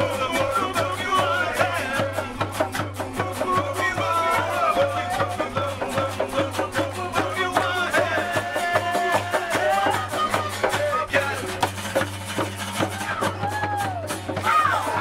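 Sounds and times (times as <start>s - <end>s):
voices singing along: 0.0s - 12.1s
acoustic guitar strumming: 0.0s - 15.0s.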